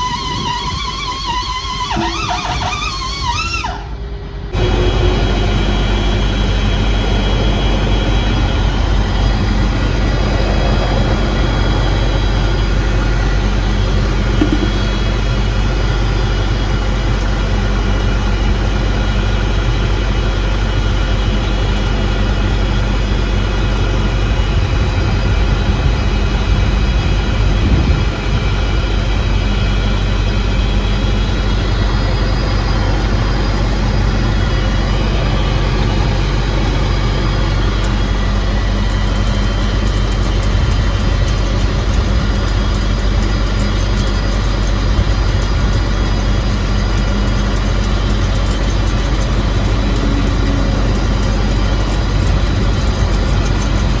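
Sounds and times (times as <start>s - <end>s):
large diesel engine humming: 0.0s - 54.0s.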